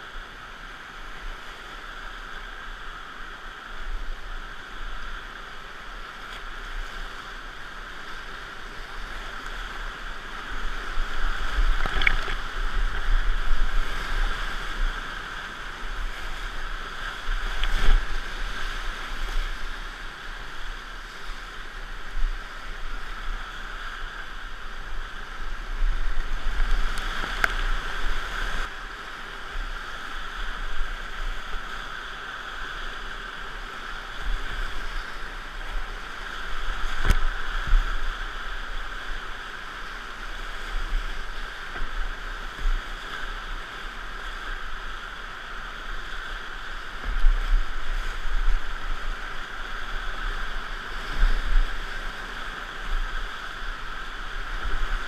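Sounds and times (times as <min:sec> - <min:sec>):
whitewater rapids rushing: 0:00.0 - 0:55.0.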